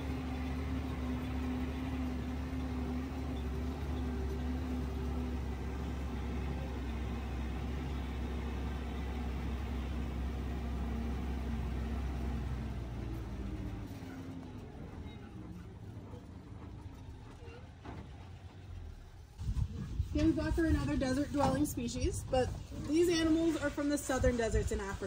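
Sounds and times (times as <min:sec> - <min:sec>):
truck engine droning: 0:00.0 - 0:25.0.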